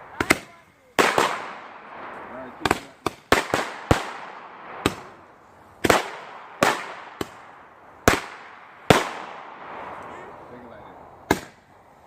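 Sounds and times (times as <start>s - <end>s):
fireworks bangs: 0.0s - 11.7s.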